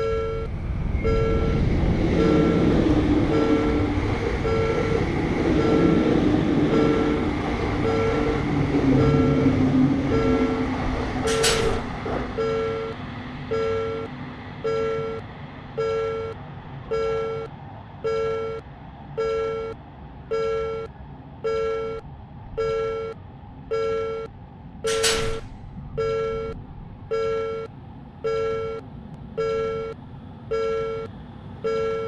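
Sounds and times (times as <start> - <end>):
level-crossing warning bell dinging: 0.0 - 18.6, 19.2 - 24.3, 24.9 - 28.8, 29.4 - 32.0
passing train rumble: 0.0 - 31.8.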